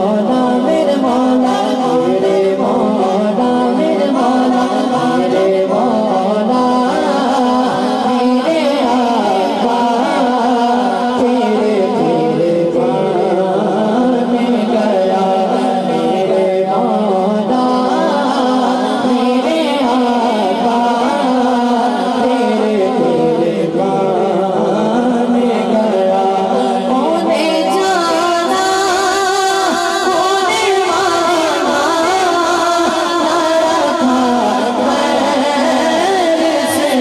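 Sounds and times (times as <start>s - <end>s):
man singing through a pa: 0.0s - 37.0s.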